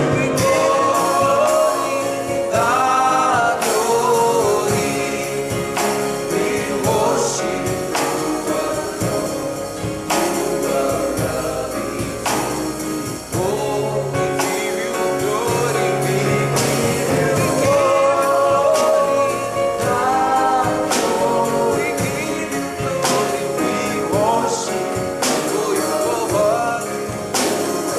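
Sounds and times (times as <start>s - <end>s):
band with steady beat: 0.0s - 27.9s
group singing gospel song: 0.0s - 27.9s.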